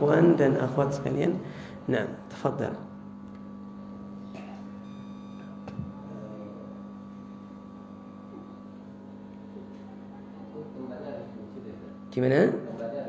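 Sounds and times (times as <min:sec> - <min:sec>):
mains hum: 0:00.0 - 0:13.0.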